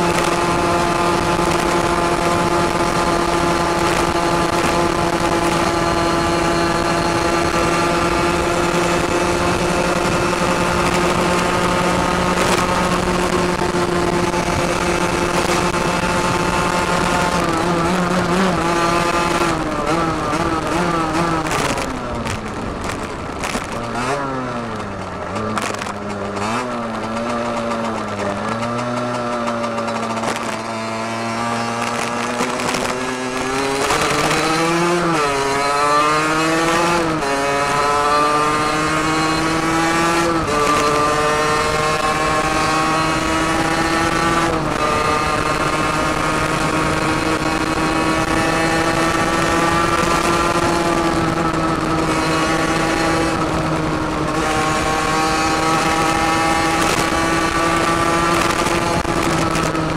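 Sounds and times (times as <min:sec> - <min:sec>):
two-stroke motorbike engine accelerating: 0:00.0 - 0:59.9.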